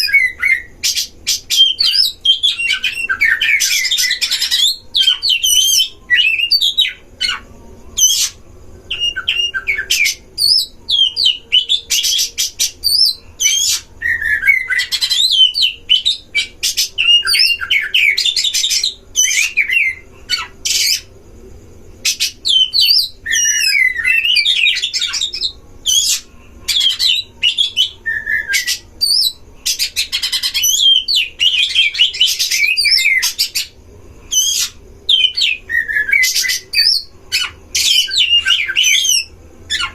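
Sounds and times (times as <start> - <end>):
birds singing varied whistles: 0.0 - 21.2, 22.0 - 39.9.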